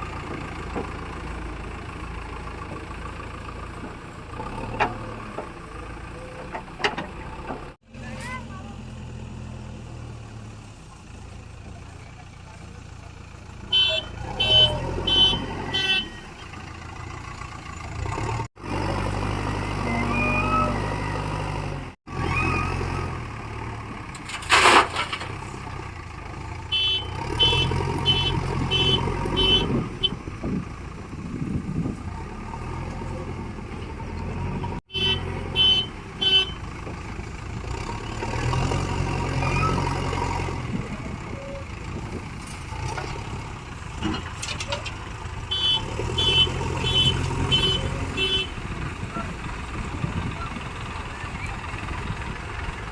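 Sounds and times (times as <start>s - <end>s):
diesel engines running: 0.0s - 52.9s.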